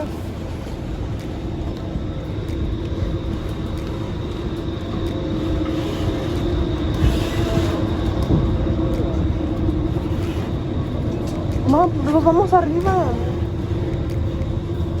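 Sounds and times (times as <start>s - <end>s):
vehicle rumble and drone: 0.0s - 15.0s.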